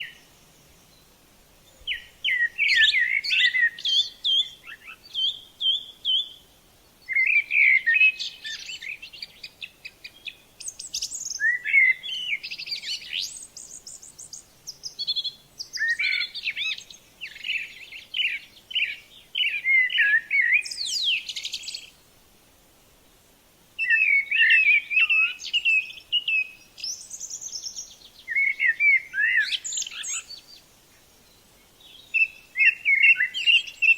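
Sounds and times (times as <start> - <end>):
bird warbling song: 0.0 - 6.4, 7.0 - 22.0, 23.8 - 33.9.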